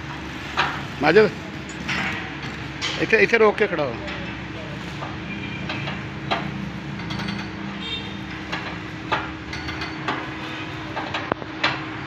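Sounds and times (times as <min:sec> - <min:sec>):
metal clanks and clicks: 0:01.6 - 0:04.4, 0:05.0 - 0:12.0.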